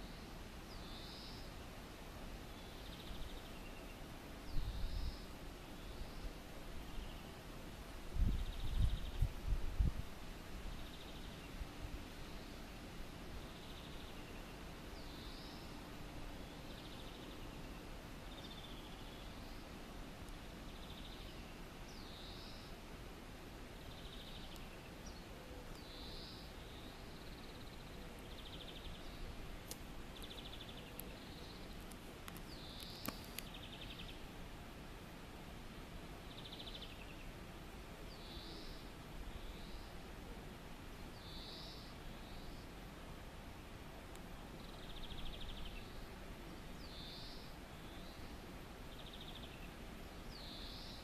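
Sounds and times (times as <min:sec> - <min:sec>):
outdoor background noise: 0:00.0 - 0:51.0.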